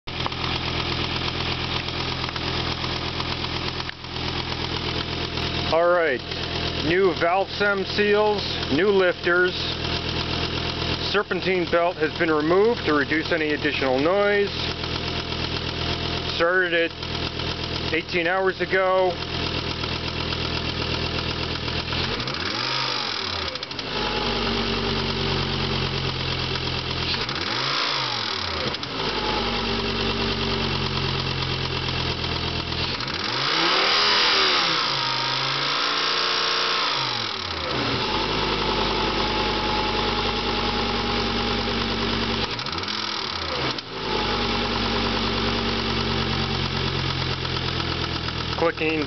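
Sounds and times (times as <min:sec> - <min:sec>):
car engine idling and revving: 0:00.0 - 0:49.0
engine ticking: 0:00.1 - 0:35.8, 0:36.6 - 0:49.0.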